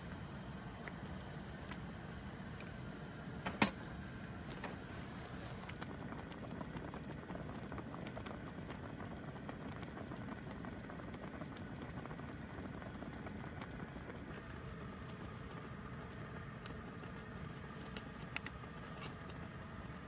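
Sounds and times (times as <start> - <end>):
broth bubbling and popping: 0.0 - 20.0.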